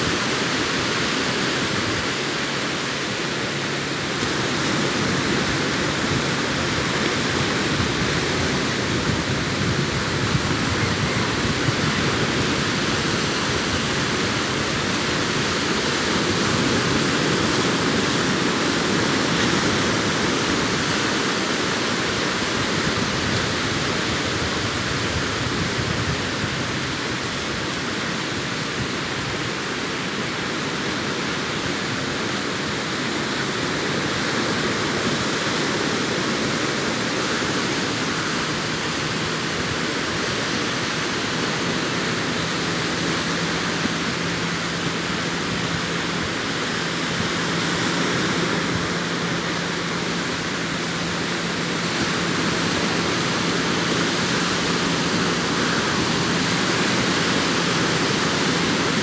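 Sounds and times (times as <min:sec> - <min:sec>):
surf washing onto beach: 0:00.0 - 0:59.0.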